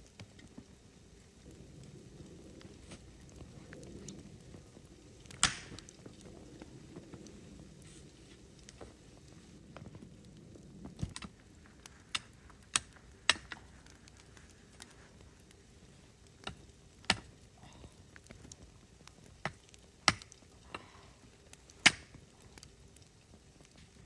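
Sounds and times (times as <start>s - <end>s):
faint background hiss: 0.0s - 24.0s.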